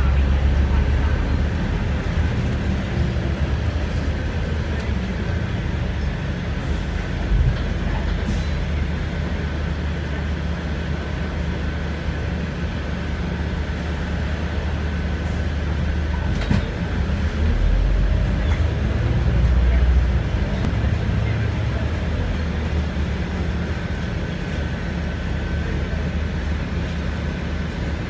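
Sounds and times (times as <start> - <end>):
bus rumble inside cabin: 0.0 - 28.0.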